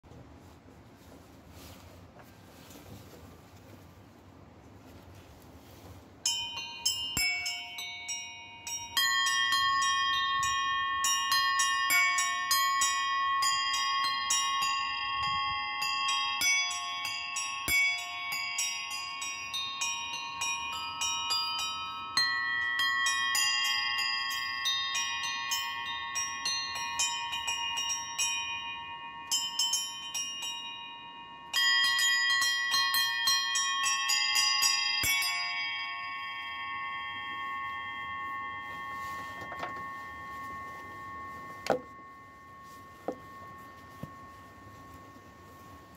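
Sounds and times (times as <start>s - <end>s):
small hand bells ringing: 6.2s - 45.9s.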